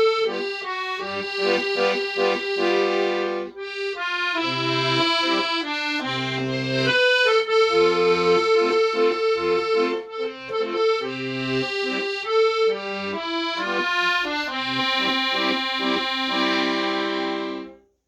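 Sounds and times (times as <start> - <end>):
accordion playing melody: 0.0 - 18.0.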